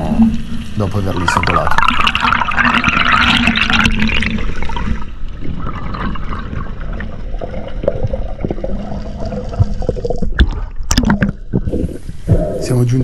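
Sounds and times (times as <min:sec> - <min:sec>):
underwater air bubbles: 0:00.0 - 0:13.0
watery wash: 0:00.0 - 0:13.0.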